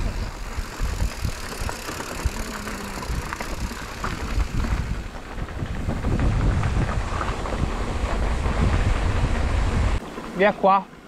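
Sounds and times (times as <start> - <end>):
wind buffeting microphone: 0.0 - 10.0
bike rattles and clicks: 0.0 - 11.0
low rumbling of bike on trail: 0.0 - 11.0.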